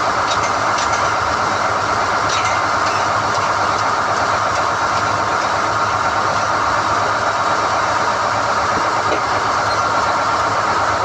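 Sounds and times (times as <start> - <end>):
drilling rig running: 0.0 - 11.0.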